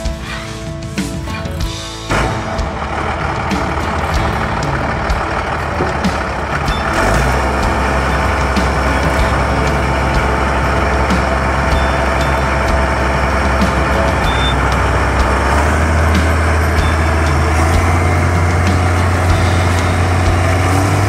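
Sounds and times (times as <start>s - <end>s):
diesel engine running: 1.6s - 21.0s.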